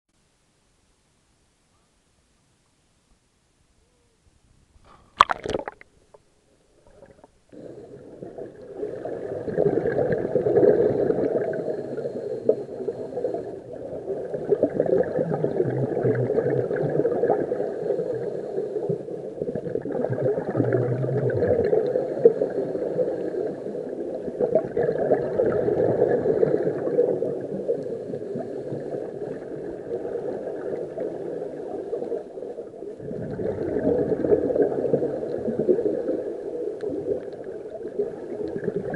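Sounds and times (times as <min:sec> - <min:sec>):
underwater bubbles gurgling: 0:05.2 - 0:38.9.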